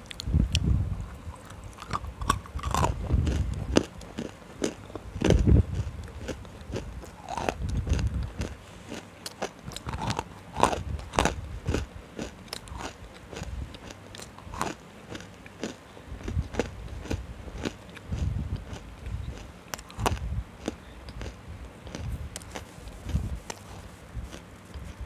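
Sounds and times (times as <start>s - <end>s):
crunching clay being chewed: 0.0s - 25.0s
low chewing rumble: 0.0s - 25.0s.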